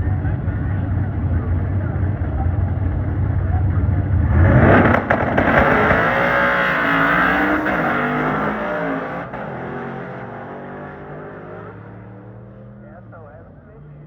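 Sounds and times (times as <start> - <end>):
drag car accelerating: 0.0 - 14.0.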